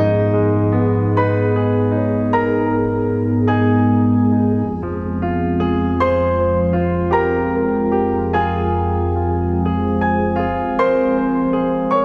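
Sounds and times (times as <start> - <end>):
slow piano notes: 0.0 - 12.0.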